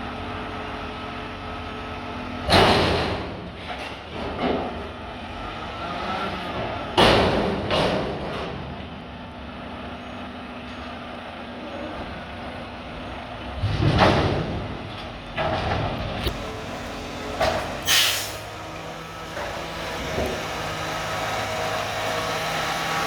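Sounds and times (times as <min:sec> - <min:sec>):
garbage truck running: 0:00.0 - 0:23.0.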